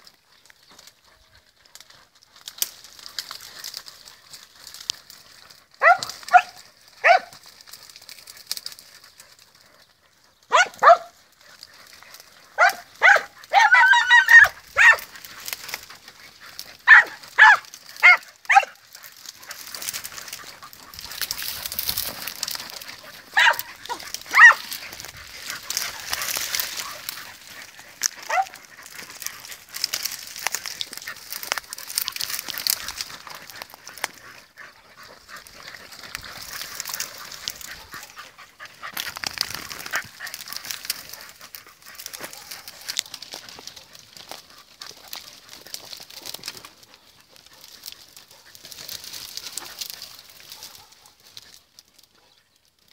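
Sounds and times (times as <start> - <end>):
dry brush rustling: 0.0 - 52.9
dogs yelping: 1.0 - 52.4.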